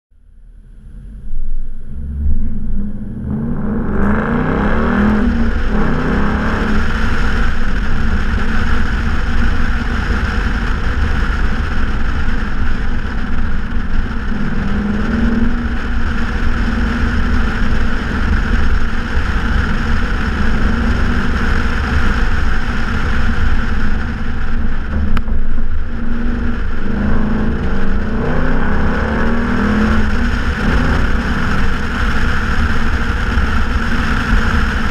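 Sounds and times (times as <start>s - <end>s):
car engine accelerating: 0.2s - 34.9s
wind and road noise: 0.4s - 34.9s.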